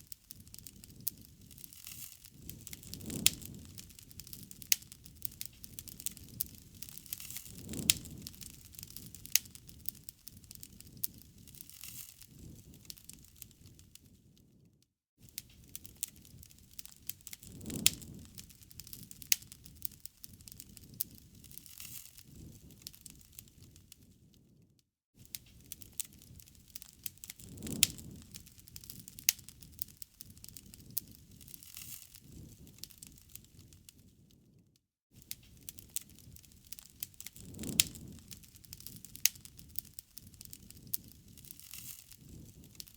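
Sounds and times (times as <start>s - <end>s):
low rumble of flames: 0.0s - 14.7s, 15.3s - 34.6s, 35.2s - 42.9s
wood fire crackling: 0.0s - 14.7s, 15.3s - 24.5s, 25.2s - 34.6s, 35.2s - 42.9s.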